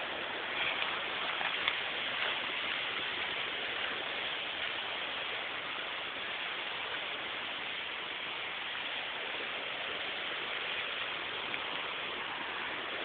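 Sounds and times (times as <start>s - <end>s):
creek water rushing over waterfalls: 0.0s - 13.0s.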